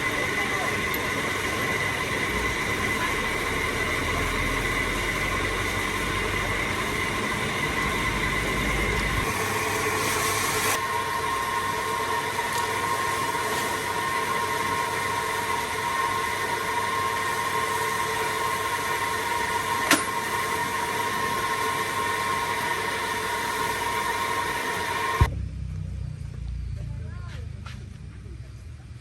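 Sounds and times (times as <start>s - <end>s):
machine whining: 0.0s - 26.8s.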